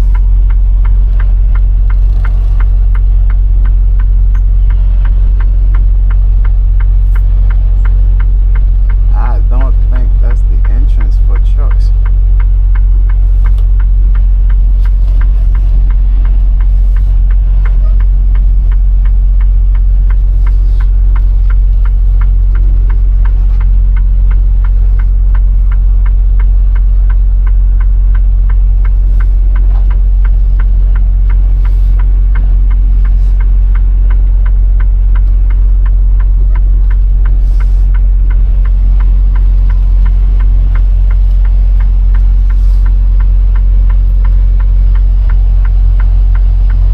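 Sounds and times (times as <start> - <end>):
fast even ticking: 0.0 - 46.9
truck diesel engine drone: 0.0 - 46.9.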